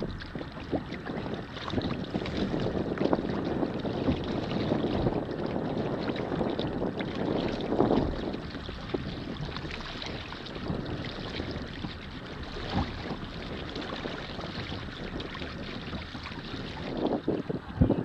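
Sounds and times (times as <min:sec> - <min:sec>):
water lapping against hull: 0:00.0 - 0:18.0
wind buffeting microphone: 0:00.0 - 0:18.0.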